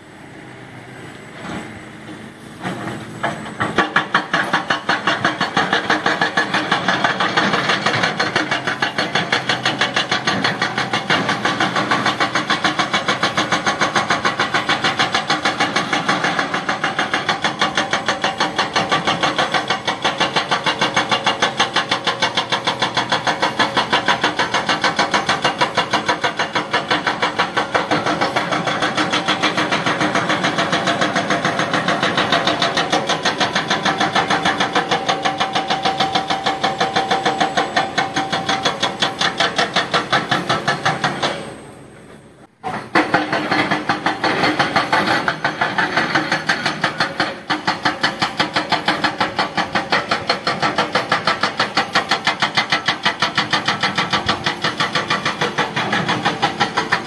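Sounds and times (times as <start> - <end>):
excavator engine running: 0.0 - 57.0
hydraulic rock breaker hammering: 2.6 - 57.0.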